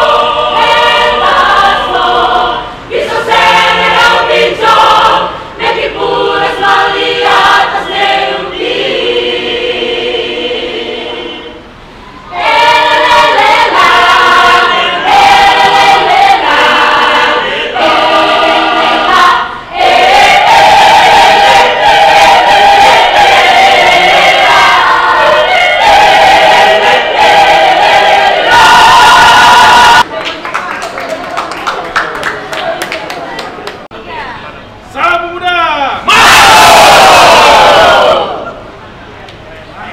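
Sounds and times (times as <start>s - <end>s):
mixed choir singing unaccompanied: 0.0s - 11.7s, 12.3s - 30.1s, 36.1s - 38.6s.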